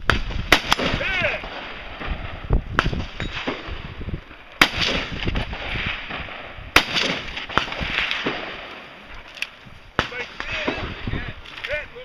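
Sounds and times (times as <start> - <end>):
rifle shots with echo: 0.0 - 9.2, 9.9 - 11.3.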